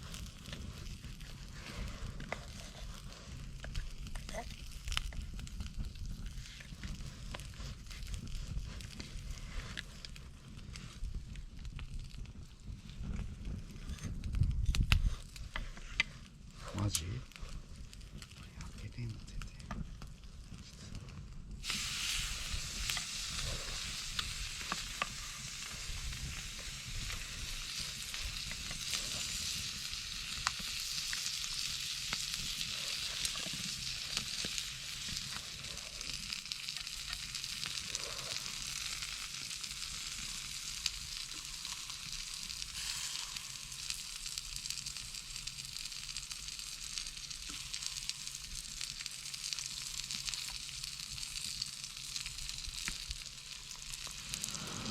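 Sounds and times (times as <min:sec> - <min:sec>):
meat sizzling over charcoal: 0:00.0 - 0:54.9.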